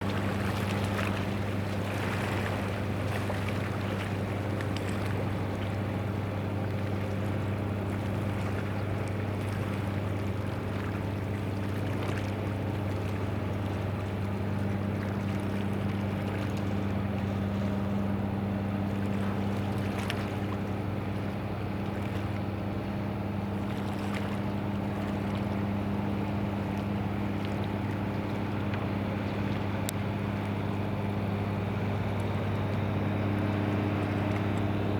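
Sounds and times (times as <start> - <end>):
boat diesel engine droning: 0.0 - 34.9
faint water splashes: 0.0 - 34.9
hiss of water and wind: 0.0 - 34.9.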